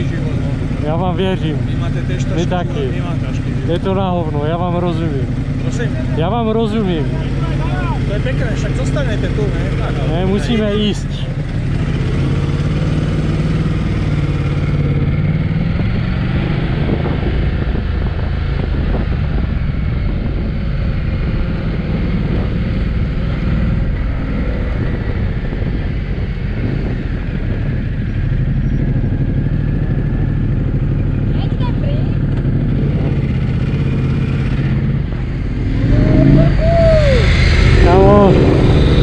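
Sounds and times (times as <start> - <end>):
motorcycle engine at low speed: 0.0 - 39.0
wind and road noise: 0.0 - 39.0.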